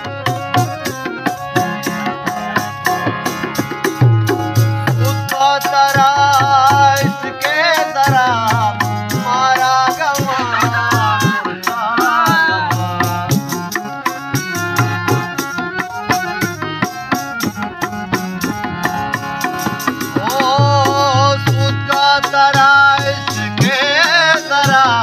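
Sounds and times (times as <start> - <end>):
harmonium chords: 0.0 - 25.0
man singing: 2.0 - 18.2, 19.9 - 25.0.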